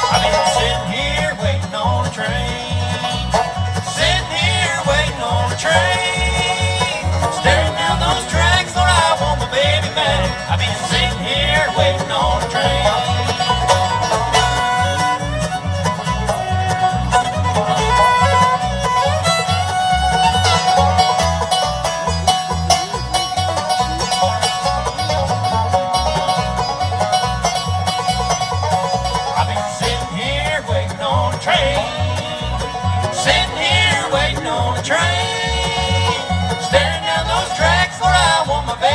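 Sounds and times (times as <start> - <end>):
acoustic guitar: 0.0 - 38.9
banjo: 0.0 - 38.9
fiddle: 0.0 - 38.9
mandolin: 0.0 - 38.9
upright bass: 0.0 - 38.9.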